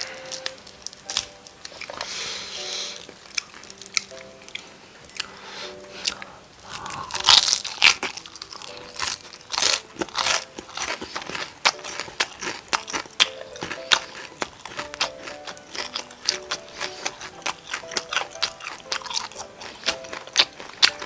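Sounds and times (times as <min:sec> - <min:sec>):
crispy fried chicken chewing: 0:00.0 - 0:21.0.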